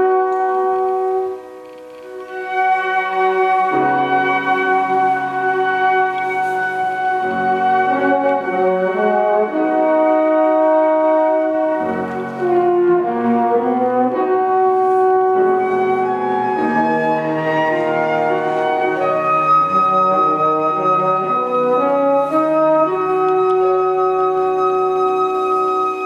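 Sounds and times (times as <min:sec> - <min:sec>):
flute ensemble playing: 0:00.0 - 0:26.0.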